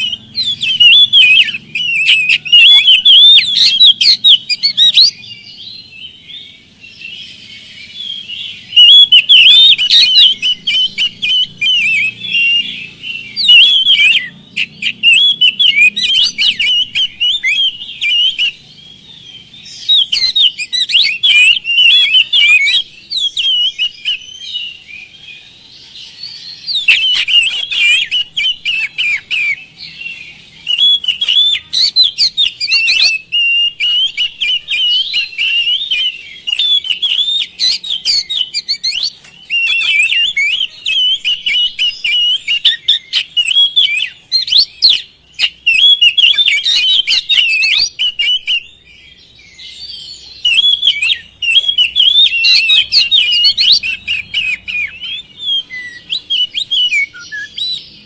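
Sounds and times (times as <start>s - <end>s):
songbird whistles and chirps: 0.0s - 58.0s.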